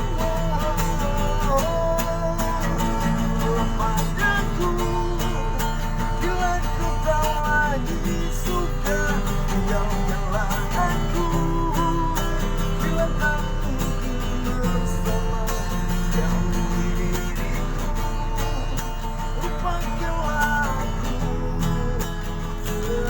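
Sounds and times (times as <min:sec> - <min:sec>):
person singing: 0:00.0 - 0:23.0
strummed acoustic guitar: 0:00.0 - 0:23.0.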